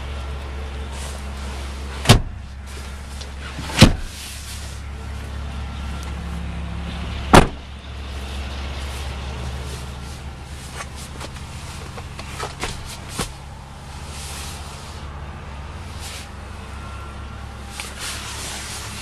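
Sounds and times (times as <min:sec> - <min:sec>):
engine idling hum: 0:00.0 - 0:19.0.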